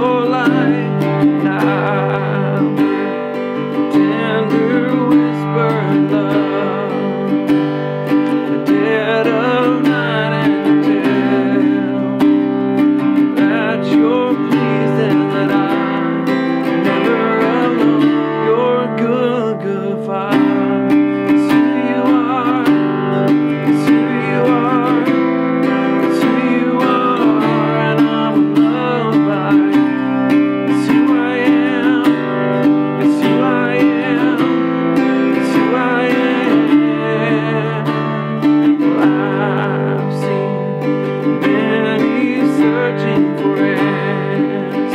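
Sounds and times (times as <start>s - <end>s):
acoustic guitar strumming: 0.0s - 44.9s.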